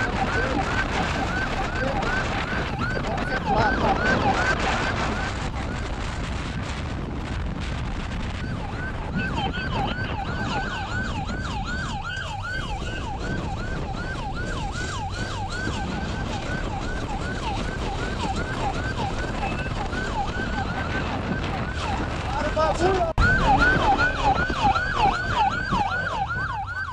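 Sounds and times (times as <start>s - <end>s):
police siren fast yelp: 0.0s - 6.0s, 8.4s - 26.9s
road and engine noise: 0.0s - 26.9s.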